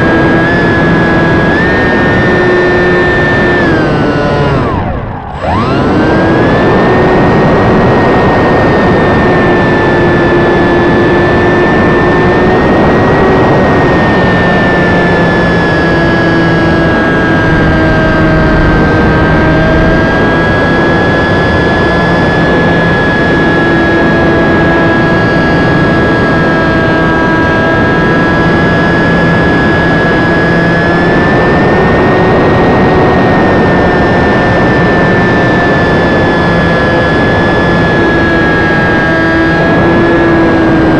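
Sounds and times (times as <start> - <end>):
electric motor whining: 0.0 - 40.9
rushing wind: 0.0 - 40.9.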